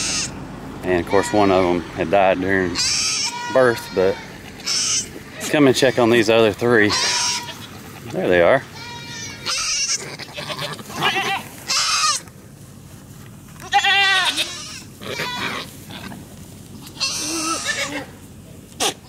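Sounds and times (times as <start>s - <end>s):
goats bleating: 0.0s - 0.4s, 1.0s - 12.3s, 13.6s - 16.2s, 16.8s - 19.0s.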